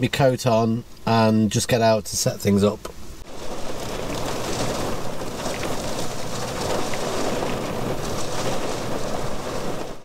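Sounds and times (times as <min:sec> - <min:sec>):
rain on a car roof: 0:01.8 - 0:10.0.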